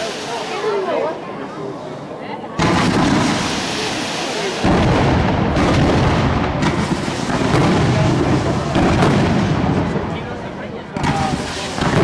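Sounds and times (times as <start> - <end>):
fireworks crackle: 0.0 - 1.2, 2.6 - 12.0
fireworks bursting: 0.0 - 1.3, 2.5 - 12.0.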